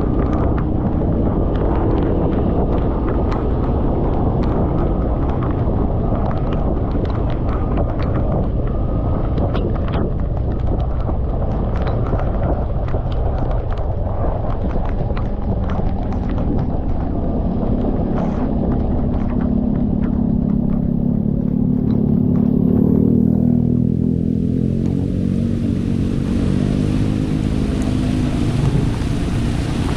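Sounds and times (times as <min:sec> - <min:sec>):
motorcycle engine hum: 0:00.0 - 0:29.9
raindrops clicking on microphone: 0:00.0 - 0:29.9
wind and road noise: 0:00.0 - 0:29.9.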